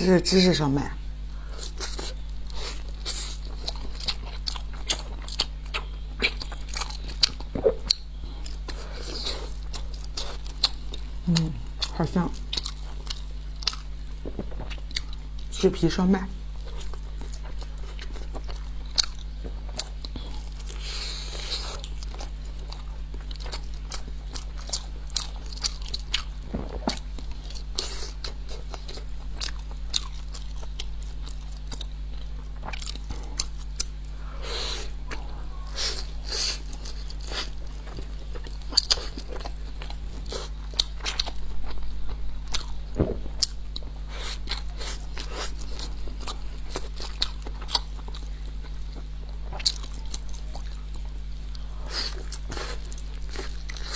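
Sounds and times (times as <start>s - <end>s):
steady low hum: 0.0s - 53.9s
crunching and wet chewing: 1.4s - 15.5s, 16.5s - 53.9s.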